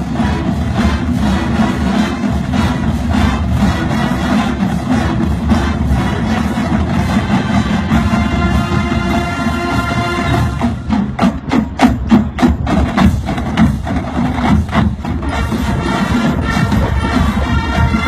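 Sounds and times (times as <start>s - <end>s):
drum line percussion hits: 0.0s - 18.0s
marching band horns: 0.0s - 18.0s.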